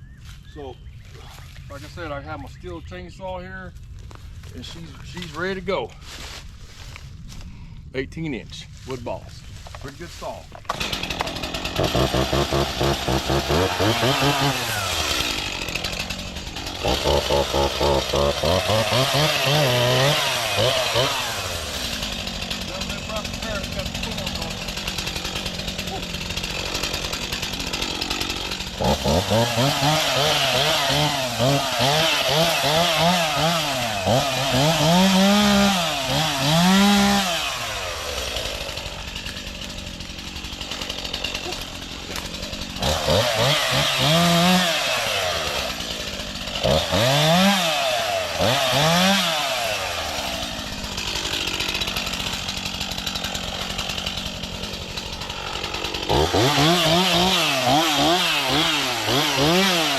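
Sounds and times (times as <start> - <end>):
chainsaw revving while cutting: 10.7 - 59.9.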